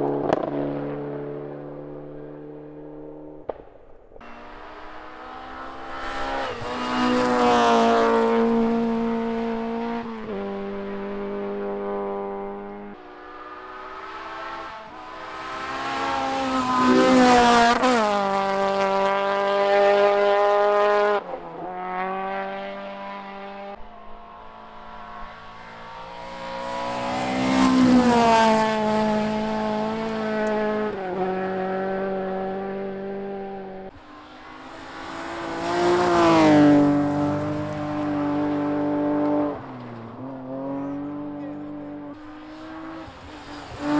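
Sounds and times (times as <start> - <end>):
rally car engine revving: 0.0 - 3.6, 4.2 - 43.9.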